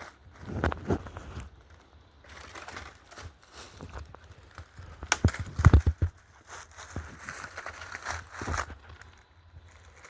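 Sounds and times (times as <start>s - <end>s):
footsteps crunching through underbrush: 0.0s - 10.0s
light crackles: 0.0s - 10.0s.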